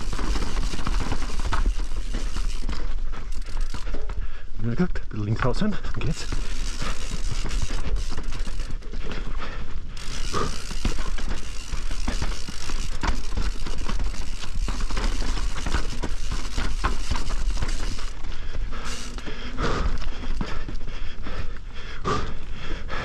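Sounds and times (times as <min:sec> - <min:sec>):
bike knocking and clattering: 0:00.0 - 0:21.5
bike tyres rushing on trail: 0:00.0 - 0:23.0.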